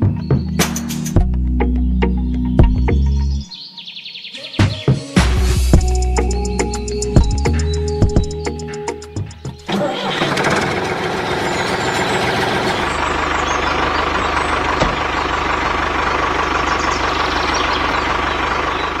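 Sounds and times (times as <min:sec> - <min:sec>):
diesel tractor engine running: 0:00.0 - 0:03.5, 0:05.8 - 0:19.0.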